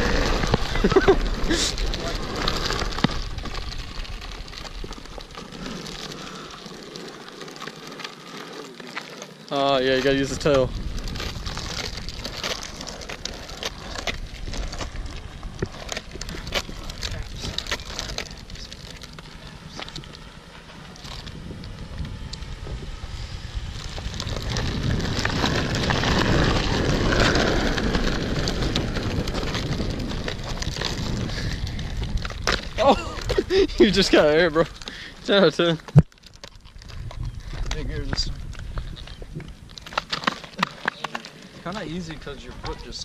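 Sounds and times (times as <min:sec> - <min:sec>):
skateboard wheels grinding on asphalt: 0:00.0 - 0:43.0.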